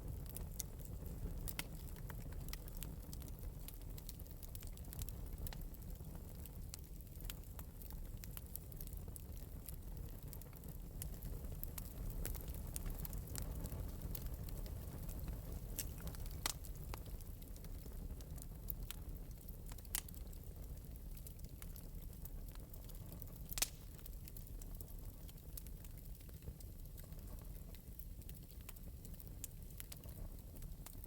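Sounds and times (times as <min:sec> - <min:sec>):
wood fire crackling softly: 0:00.0 - 0:31.0.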